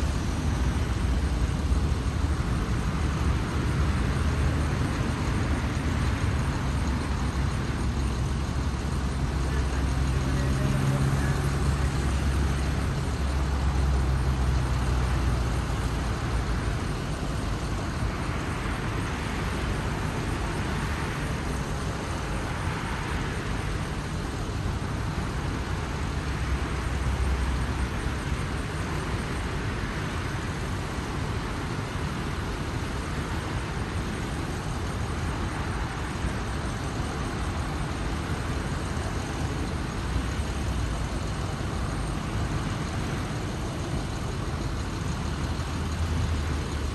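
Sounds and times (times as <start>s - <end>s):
deep engine rumble: 0.0s - 46.9s.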